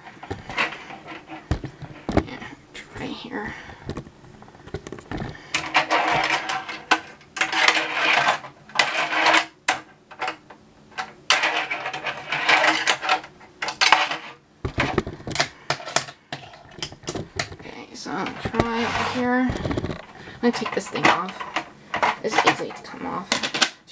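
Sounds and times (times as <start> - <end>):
fingerboard wheels rolling on plastic: 0.0 - 23.6.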